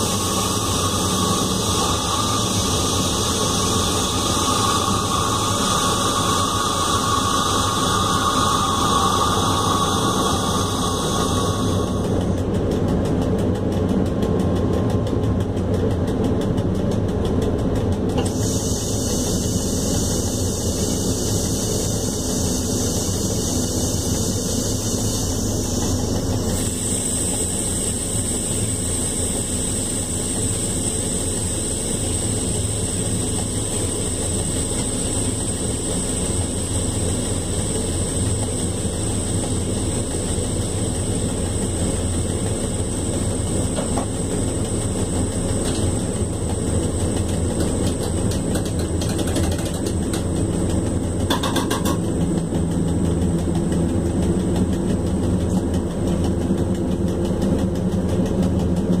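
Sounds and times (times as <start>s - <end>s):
high steady whine: 0.0s - 59.0s
locomotive cab rumble: 0.0s - 59.0s.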